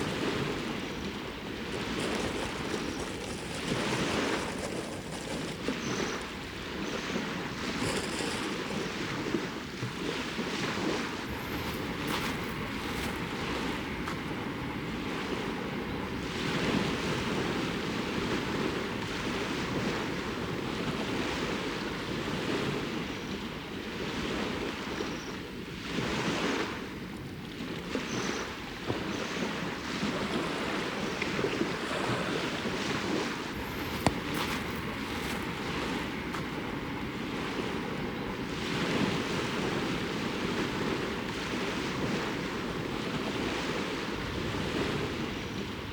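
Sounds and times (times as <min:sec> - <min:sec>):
small waves washing on shore: 0:00.0 - 0:45.9
wind noise on microphone: 0:00.0 - 0:45.9.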